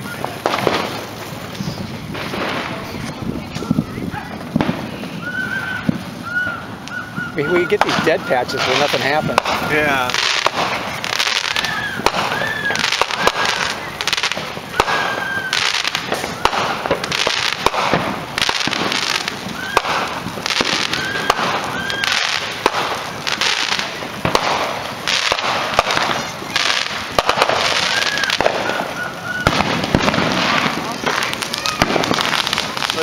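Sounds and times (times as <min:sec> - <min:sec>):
firework whistles: 0:00.0 - 0:33.0
fireworks bangs: 0:00.0 - 0:33.0
fireworks crackling and popping: 0:00.0 - 0:33.0.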